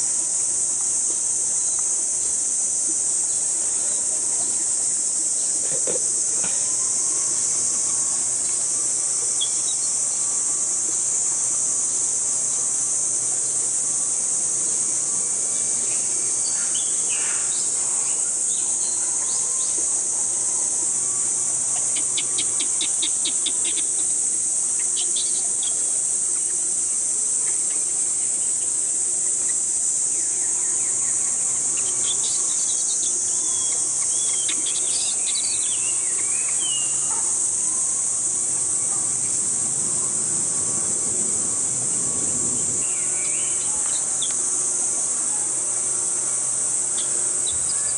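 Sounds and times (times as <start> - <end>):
insect chirps: 0.0 - 47.9
shrill insect drone: 0.0 - 47.9.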